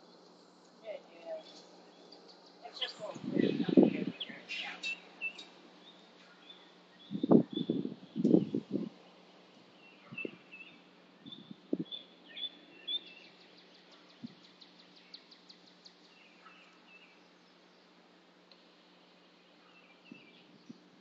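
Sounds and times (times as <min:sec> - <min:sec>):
birds chirping: 0:00.0 - 0:08.9, 0:09.7 - 0:20.9.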